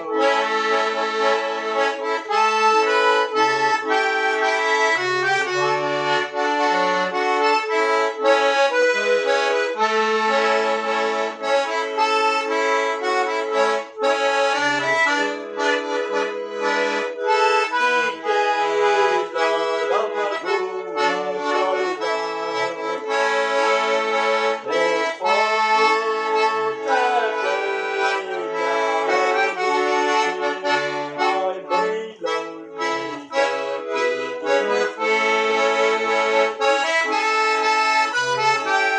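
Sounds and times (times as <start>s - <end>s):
accordion melody: 0.0s - 38.9s.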